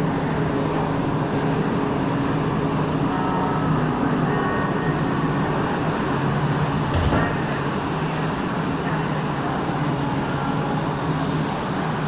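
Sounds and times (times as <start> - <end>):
metro train hum and rumble: 0.0 - 12.0.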